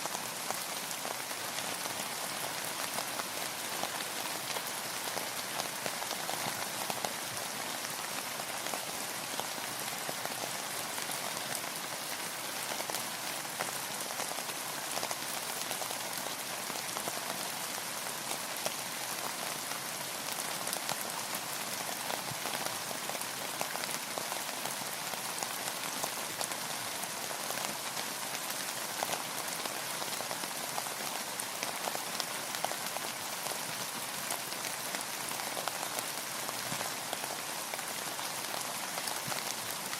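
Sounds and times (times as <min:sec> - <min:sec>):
steady rainfall: 0:00.0 - 0:39.9
raindrops ticking on a surface: 0:00.1 - 0:39.9.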